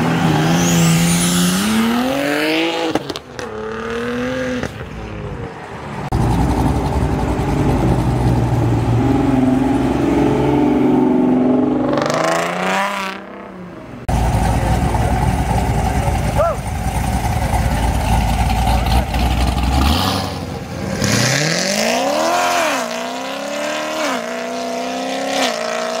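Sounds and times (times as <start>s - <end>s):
cars accelerating hard: 0.0s - 16.2s, 17.1s - 26.0s.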